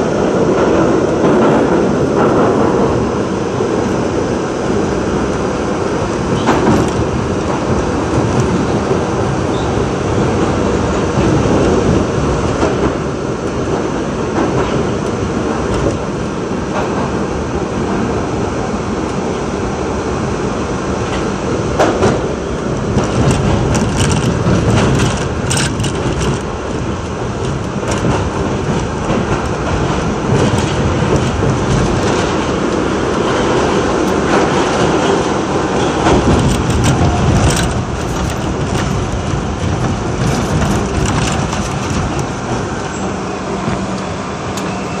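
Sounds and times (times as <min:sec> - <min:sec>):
rail joint clicks: 0:00.0 - 0:45.0
train wheels rumbling on rail: 0:00.0 - 0:45.0.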